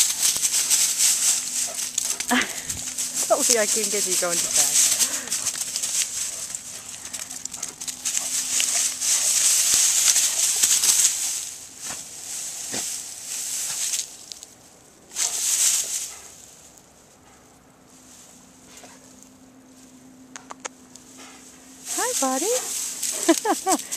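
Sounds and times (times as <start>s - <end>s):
dog rustling through dry grass: 0.0s - 20.2s, 20.9s - 23.9s.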